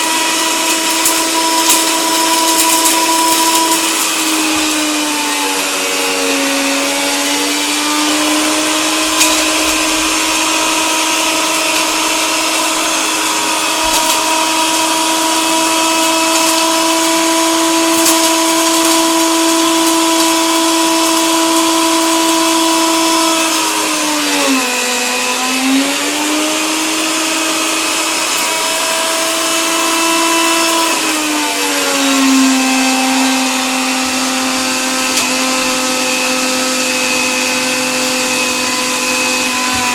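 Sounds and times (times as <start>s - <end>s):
electric coffee grinder running: 0.0s - 39.9s.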